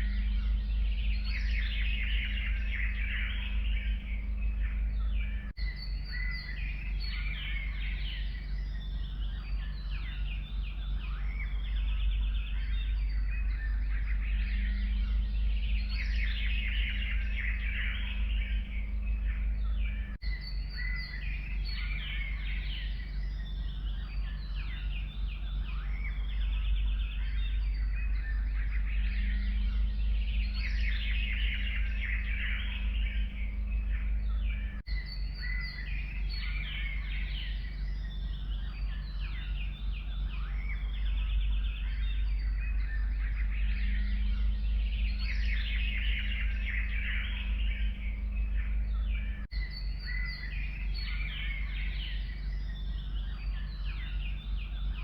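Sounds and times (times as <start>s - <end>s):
songbirds chirping and trilling: 0.0s - 55.0s
steady low rumble: 0.0s - 55.0s.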